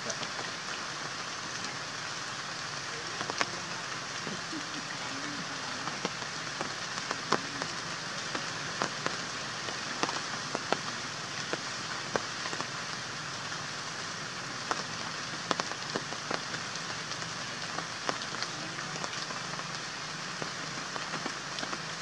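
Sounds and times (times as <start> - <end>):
heavy raindrops ticking: 0.0 - 22.0
steady rain falling: 0.0 - 22.0.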